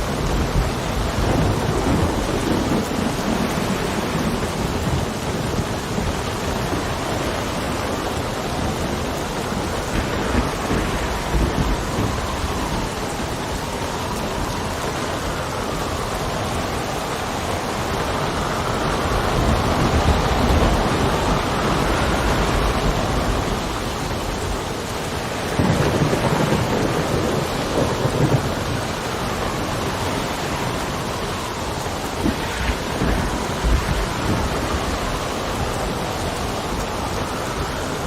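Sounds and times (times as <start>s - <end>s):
rain: 0.0s - 38.0s
wind: 0.0s - 38.0s.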